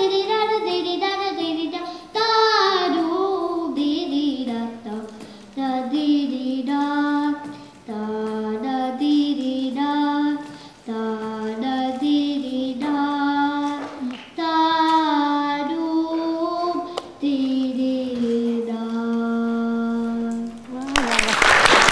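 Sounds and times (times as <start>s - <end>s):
girl singing classical vocal: 0.0s - 21.4s.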